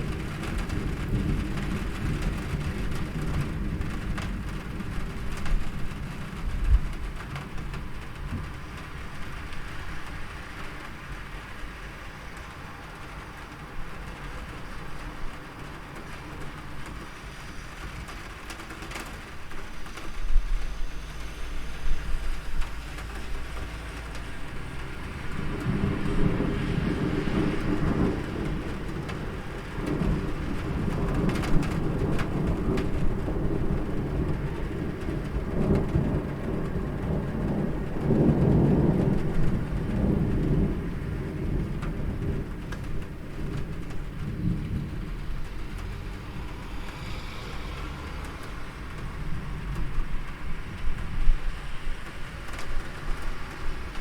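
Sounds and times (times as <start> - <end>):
rolling thunder: 0.0 - 11.4, 12.9 - 54.0
steady rain falling: 0.0 - 54.0.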